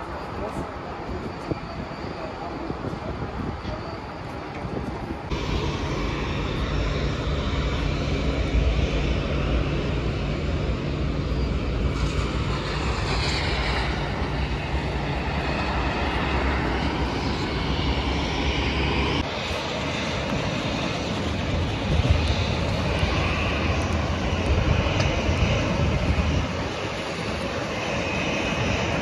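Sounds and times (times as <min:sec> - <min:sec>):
engine whine gliding in pitch: 0:00.0 - 0:29.0
jet engines rumbling: 0:00.0 - 0:29.0.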